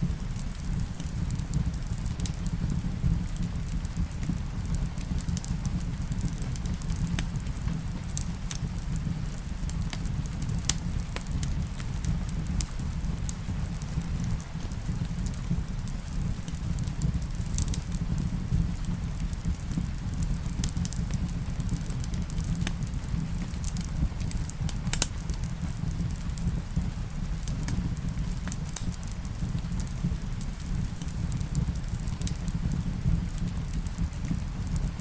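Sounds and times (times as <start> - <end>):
rain hissing: 0.0 - 35.0
wood fire crackling: 0.0 - 35.0.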